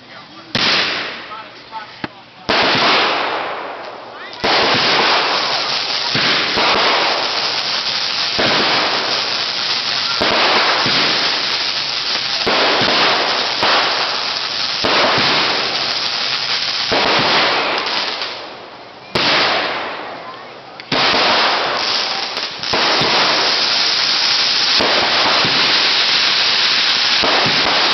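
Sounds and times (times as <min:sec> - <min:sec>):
firework hissing crackle: 0:00.0 - 0:27.9
firework loud burst: 0:00.5 - 0:01.4, 0:02.5 - 0:20.3, 0:20.9 - 0:27.9.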